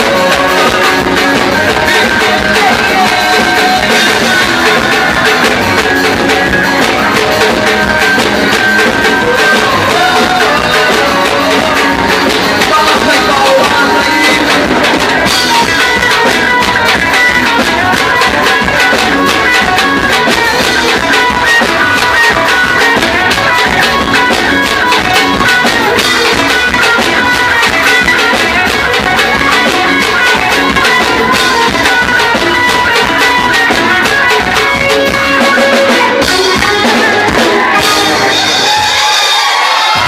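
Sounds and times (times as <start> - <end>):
live band playing upbeat music: 0.0 - 40.0.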